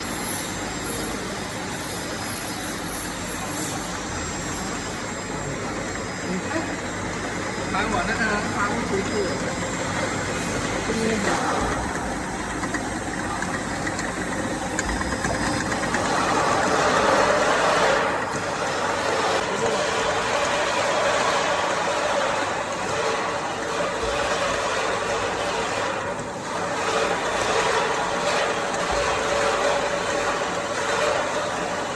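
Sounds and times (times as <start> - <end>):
high-pitched machine whine: 0.0 - 31.9
machine mechanical hum: 0.0 - 31.9.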